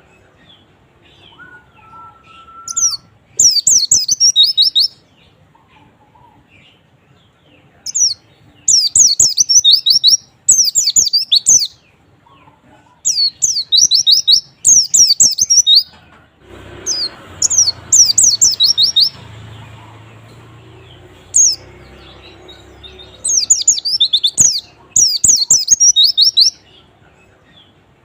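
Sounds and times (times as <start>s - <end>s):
bird chirping rapidly: 0.0s - 5.4s, 7.8s - 12.0s, 13.0s - 15.9s, 16.7s - 26.8s.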